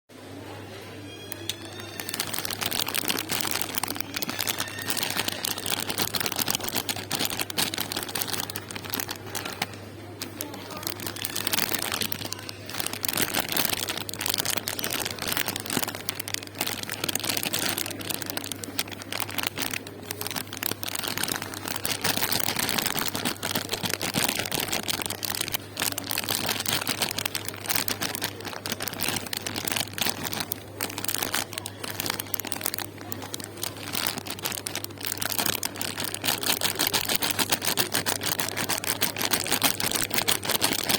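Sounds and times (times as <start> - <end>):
crinkling sweets packaging: 1.2 - 40.9.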